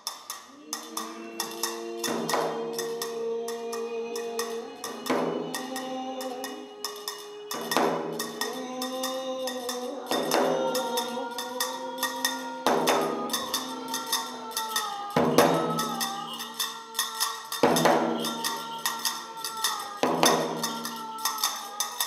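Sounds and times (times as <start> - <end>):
light clicking percussion: 0.0 - 22.0.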